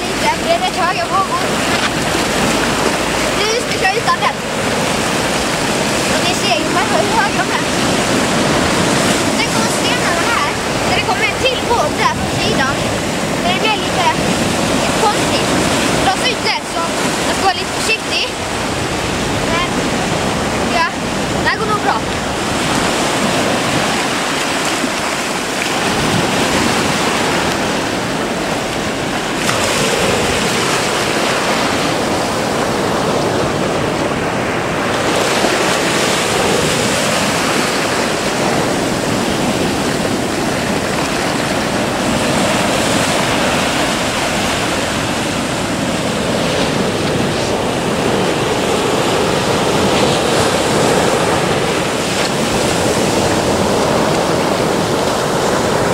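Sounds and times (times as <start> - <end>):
waves crashing on shore: 0.0 - 55.9.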